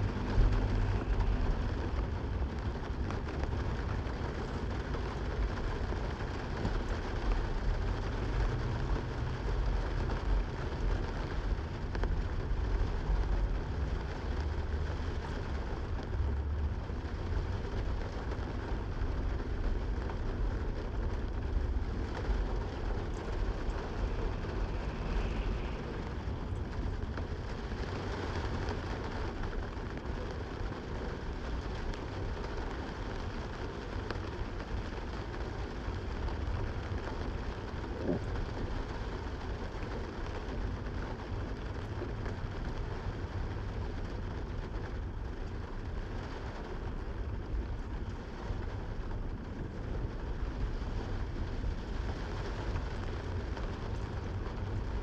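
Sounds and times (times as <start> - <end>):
deep uneven rumble: 0.0 - 55.0
steady rain: 0.0 - 55.0.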